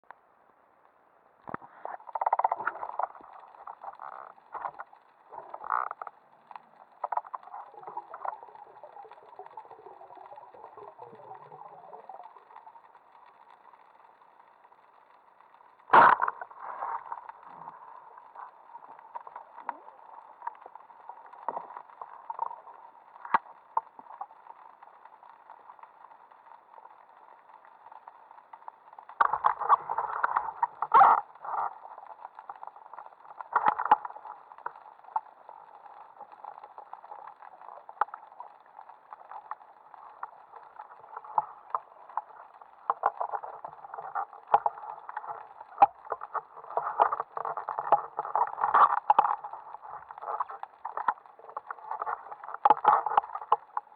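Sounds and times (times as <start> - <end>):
muffled underwater hiss: 1.3 - 53.9.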